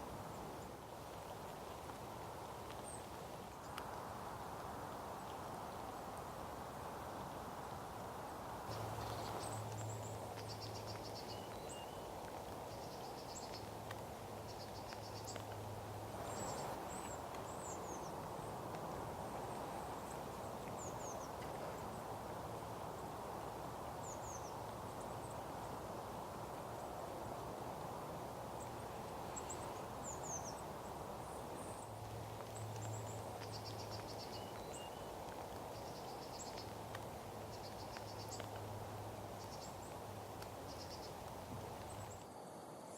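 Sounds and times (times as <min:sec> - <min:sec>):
background hiss: 0:00.0 - 0:42.9
songbirds calling: 0:00.3 - 0:04.2, 0:04.8 - 0:42.3.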